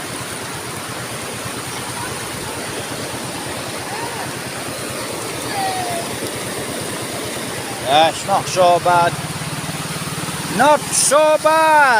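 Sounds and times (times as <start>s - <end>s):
rushing river water: 0.0s - 11.9s
waterfall: 0.0s - 11.9s.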